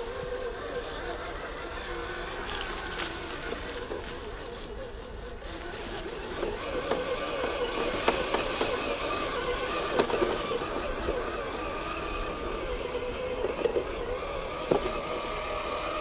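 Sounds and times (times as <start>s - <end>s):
toy truck electric motor whining: 0.0s - 16.0s.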